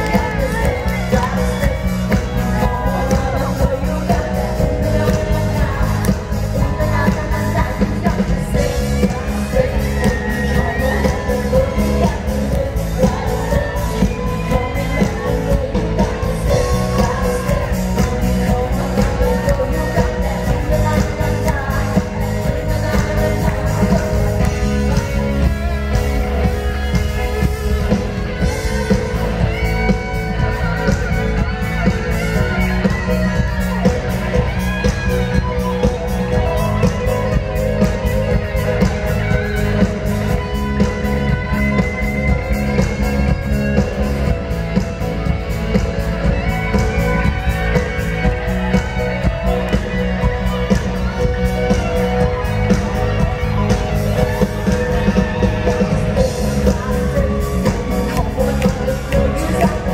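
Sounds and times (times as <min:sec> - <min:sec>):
live rock band: 0:00.0 - 0:59.9
person singing: 0:00.0 - 0:59.9.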